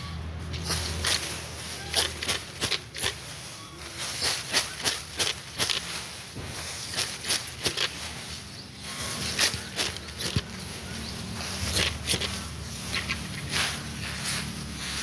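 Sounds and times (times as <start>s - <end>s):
dry stalks rustling: 0.0s - 15.0s.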